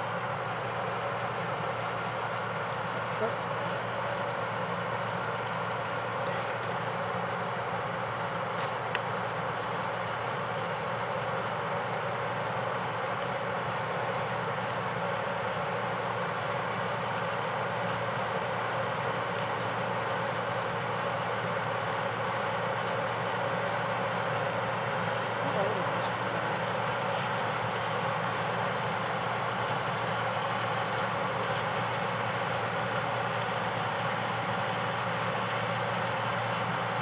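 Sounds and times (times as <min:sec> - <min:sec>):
diesel machinery droning: 0:00.0 - 0:37.0.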